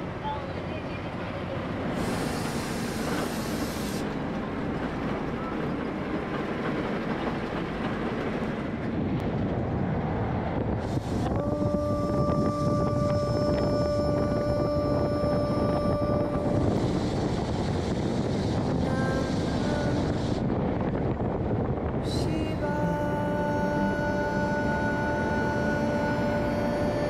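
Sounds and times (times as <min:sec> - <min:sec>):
bus engine and road rumble: 0:00.0 - 0:27.0
wind rushing over microphone: 0:00.0 - 0:27.0.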